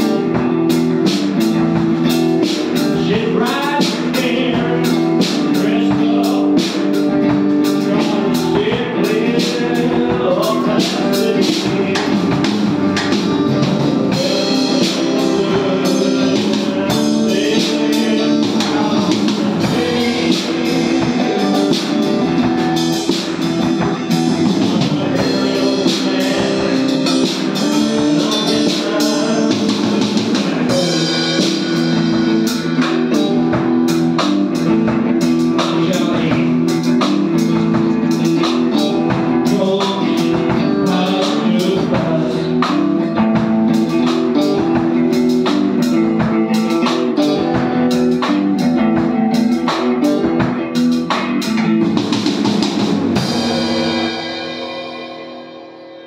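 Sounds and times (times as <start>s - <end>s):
drum kit: 0.0s - 56.0s
electric guitar chords: 0.0s - 56.0s.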